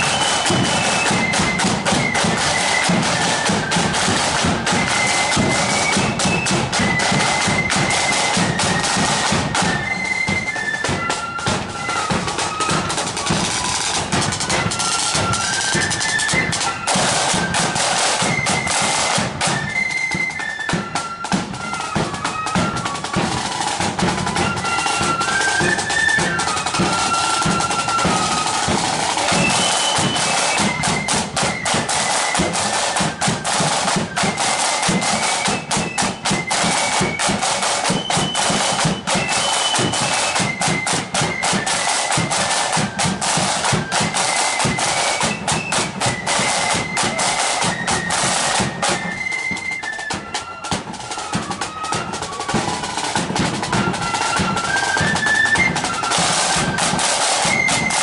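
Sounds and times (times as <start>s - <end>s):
flutes playing melody: 0.0s - 58.0s
side-drum rolls: 0.0s - 58.0s.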